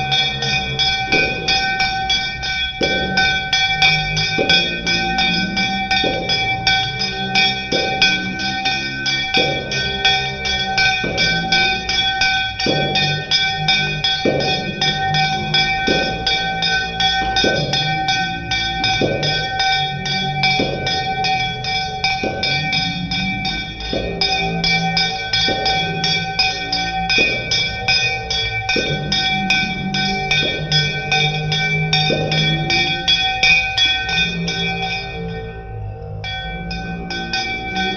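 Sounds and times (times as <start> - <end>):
bell ringing: 0.0 - 37.9.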